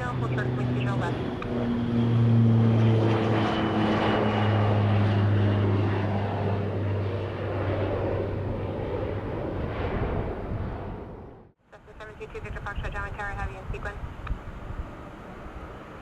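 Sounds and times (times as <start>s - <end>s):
airplane engine hum: 0.0s - 16.0s.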